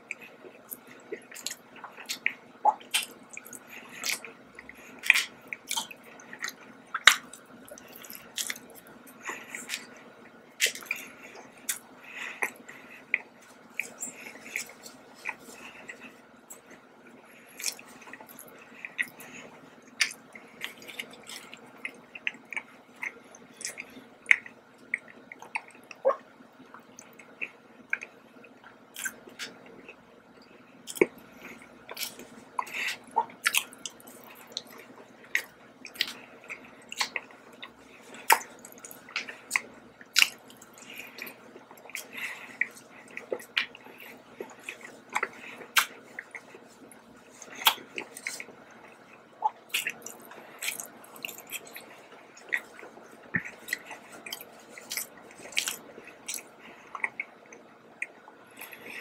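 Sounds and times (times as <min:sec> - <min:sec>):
wet chewing clicks and smacks: 0:00.0 - 0:16.8, 0:17.5 - 0:59.0.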